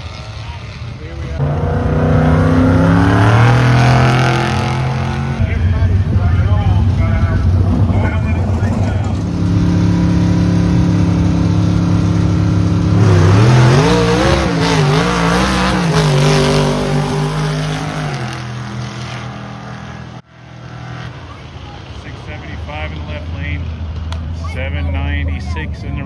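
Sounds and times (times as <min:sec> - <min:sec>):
car engine revving: 0:00.0 - 0:24.2
cars idling: 0:00.0 - 0:26.0.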